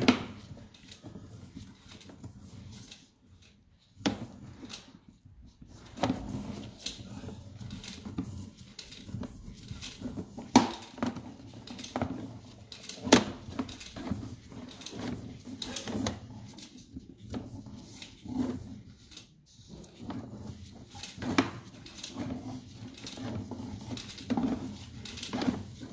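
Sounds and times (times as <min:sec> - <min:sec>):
cable and reel knocking and rattling: 0:00.0 - 0:25.9.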